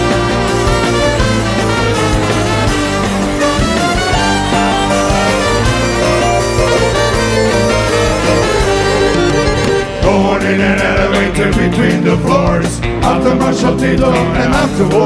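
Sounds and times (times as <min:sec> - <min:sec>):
rock band playing instrumental: 0:00.0 - 0:15.0.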